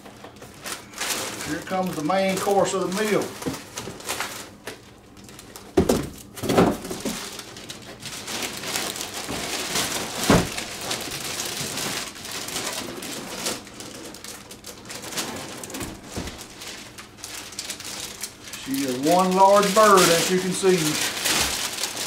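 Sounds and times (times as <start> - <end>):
packaging rustling and scraping: 0.0 - 22.0.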